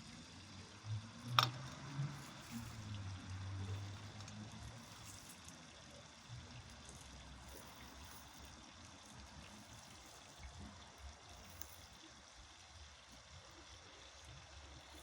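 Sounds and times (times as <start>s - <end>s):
small ticks: 1.2s - 15.0s.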